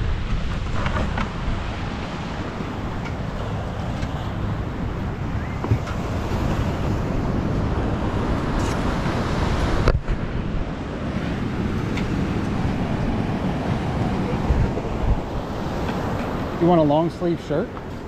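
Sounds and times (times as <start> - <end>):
surf washing in: 0.0 - 18.0
wind buffeting the microphone: 0.0 - 18.0.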